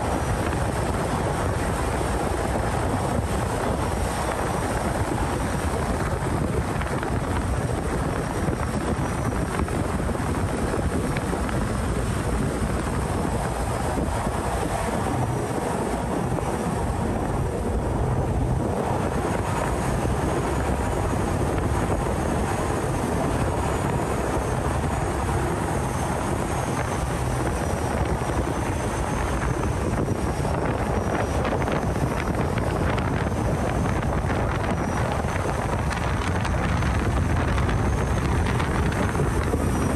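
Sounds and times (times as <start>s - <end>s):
boat engine running: 0.0s - 39.9s
wind noise: 0.0s - 39.9s.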